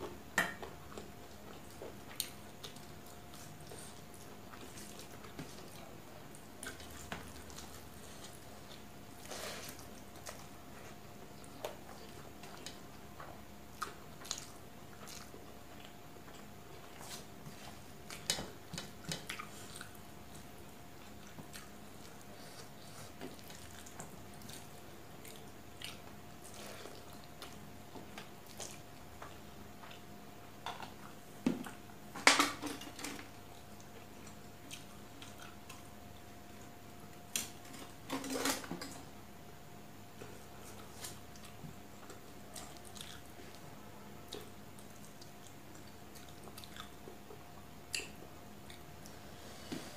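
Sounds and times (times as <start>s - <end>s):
chewing: 0.6s - 30.1s, 33.5s - 36.7s, 40.2s - 49.2s.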